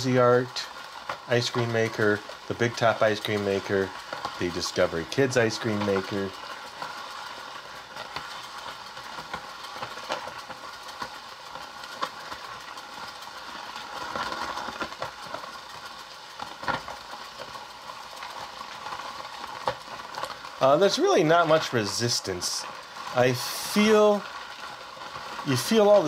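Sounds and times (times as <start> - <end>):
toy crank rattling and clicking: 0.0 - 26.0.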